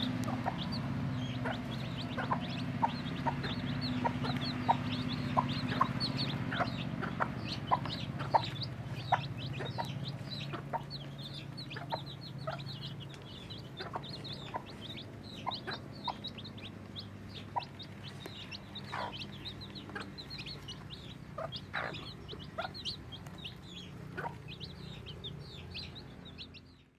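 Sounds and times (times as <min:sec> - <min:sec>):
hen clucking: 0:00.0 - 0:26.6
chicks peeping: 0:00.0 - 0:26.9.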